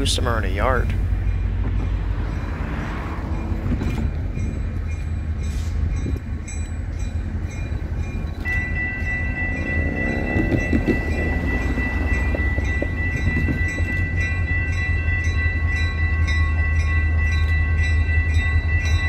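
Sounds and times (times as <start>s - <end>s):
diesel locomotive rumbling: 0.0s - 19.0s.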